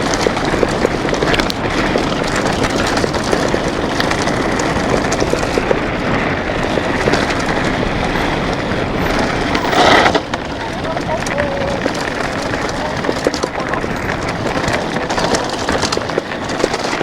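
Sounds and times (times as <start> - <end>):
small clicks and rattles: 0.0 - 17.0
wind rushing on microphone: 0.0 - 17.0.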